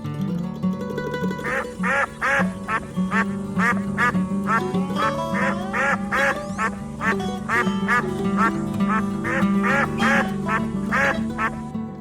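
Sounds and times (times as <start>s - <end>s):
animal quacking calls: 1.4s - 11.6s
background music: 1.4s - 12.0s.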